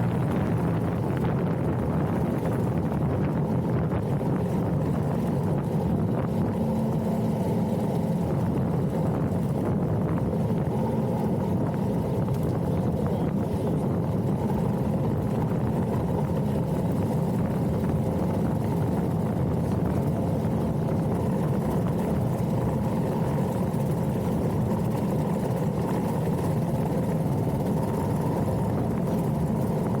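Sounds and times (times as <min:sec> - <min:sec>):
wind rush: 0:00.0 - 0:30.0.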